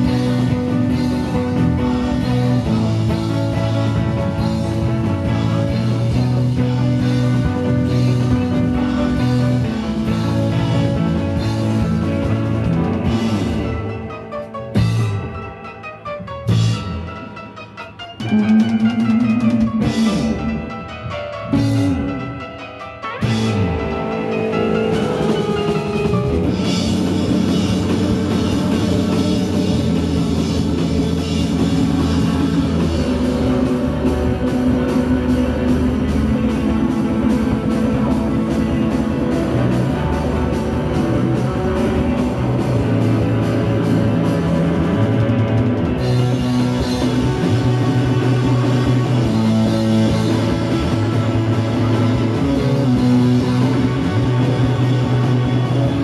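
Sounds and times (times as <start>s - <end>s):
bass guitar: 0.0s - 56.0s
drum kit: 0.0s - 56.0s
electric guitar: 0.0s - 56.0s
keyboard: 0.0s - 56.0s.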